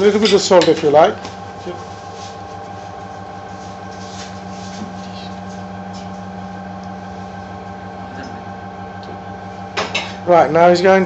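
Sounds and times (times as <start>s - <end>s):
kitchen machinery humming: 0.0s - 11.0s.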